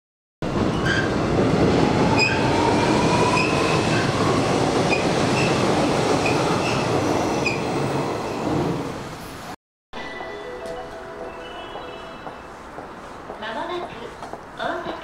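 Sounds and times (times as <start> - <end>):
train wheels rumbling on rails: 0.4 - 9.6, 11.7 - 15.0.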